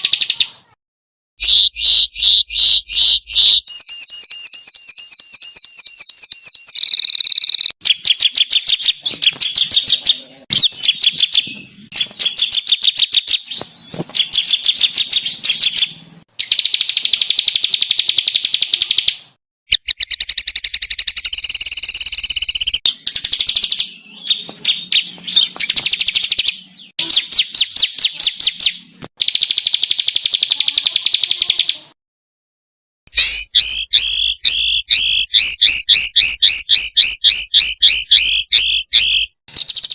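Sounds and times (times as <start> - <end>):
songbirds trilling: 1.4 - 32.0, 33.1 - 39.9.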